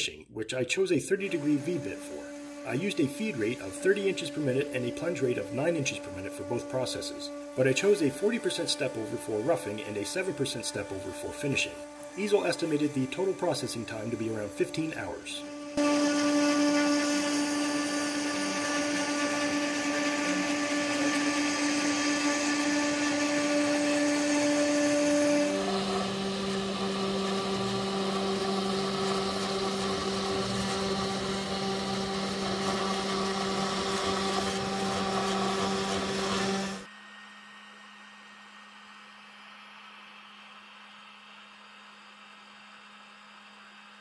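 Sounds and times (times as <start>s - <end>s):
router motor whine: 1.1s - 44.0s
bit cutting wood hiss: 1.2s - 36.9s.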